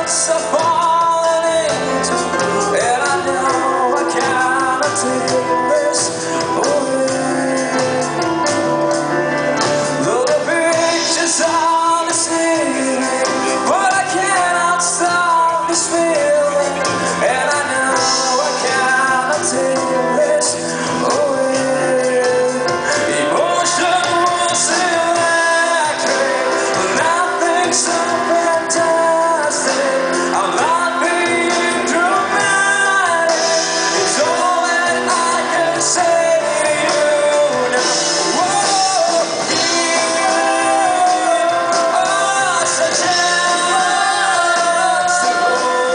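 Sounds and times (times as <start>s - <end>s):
live band playing: 0.0s - 45.9s
person singing: 0.0s - 45.9s.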